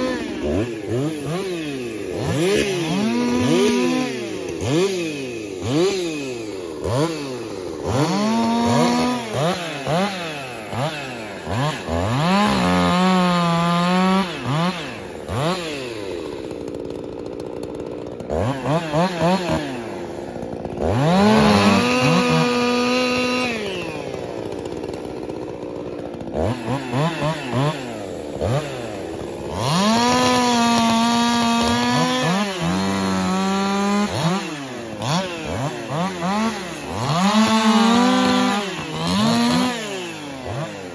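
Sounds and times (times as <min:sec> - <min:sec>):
chainsaws revving and cutting logs: 0:00.0 - 0:40.9.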